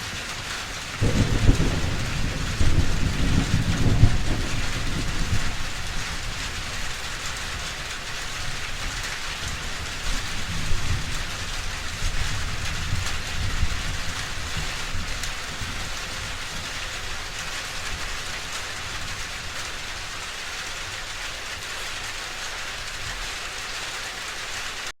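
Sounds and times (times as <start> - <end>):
low thunder rumble: 0.0 - 20.2
heavy rain falling: 0.0 - 25.0.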